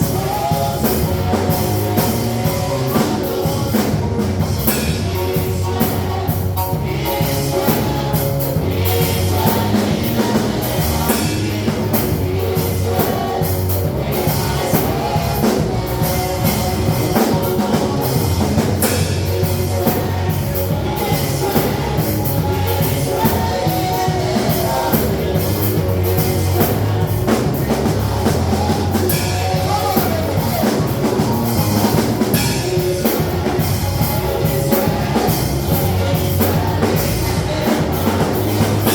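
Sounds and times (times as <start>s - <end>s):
worship band music: 0.0s - 38.9s.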